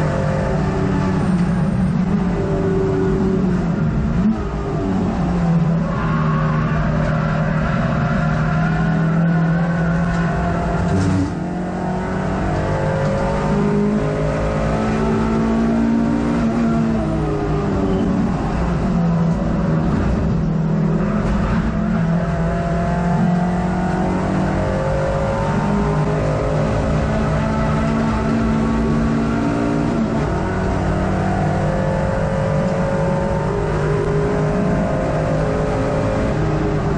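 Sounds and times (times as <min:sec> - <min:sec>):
race car engine revving in cabin: 0:00.0 - 0:36.9.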